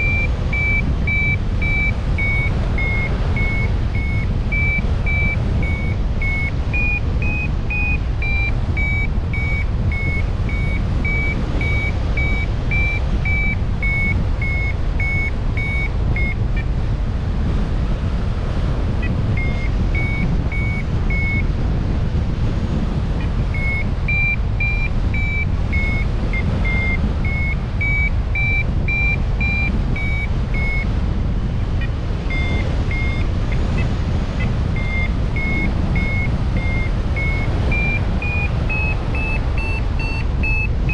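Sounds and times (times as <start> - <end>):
steady low rumble: 0.0 - 40.9.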